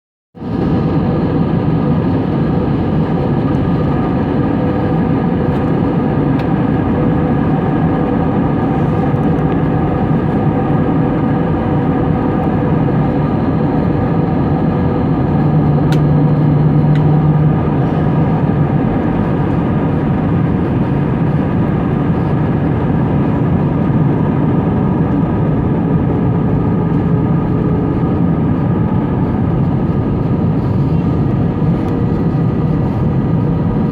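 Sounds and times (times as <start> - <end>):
jet engine and airflow roar: 0.4 - 33.9
low hum: 0.4 - 33.9.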